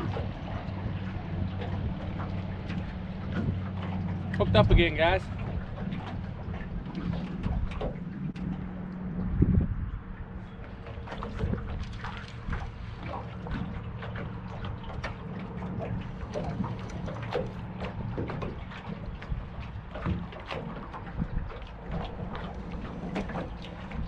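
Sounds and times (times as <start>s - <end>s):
steady low hum: 0.0s - 24.0s
water slapping against boat hull: 0.0s - 24.0s
wind buffeting microphone: 0.0s - 24.0s.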